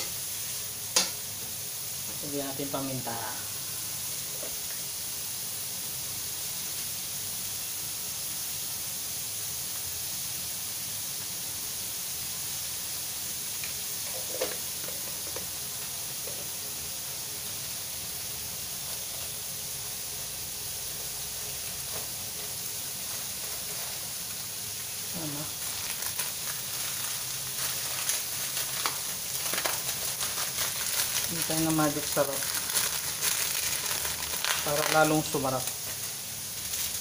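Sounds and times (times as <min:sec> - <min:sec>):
vegetables sizzling in a wok: 0:00.0 - 0:37.0.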